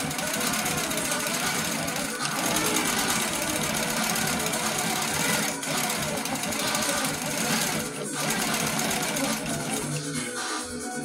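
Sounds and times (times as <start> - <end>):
quilting machine needle chatter: 0.0 - 10.0.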